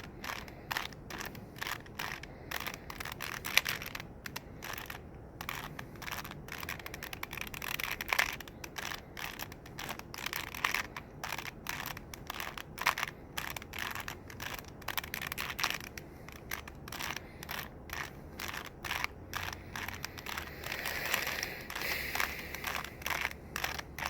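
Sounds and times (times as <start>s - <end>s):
puzzle cube plastic clicks: 0.0s - 24.0s.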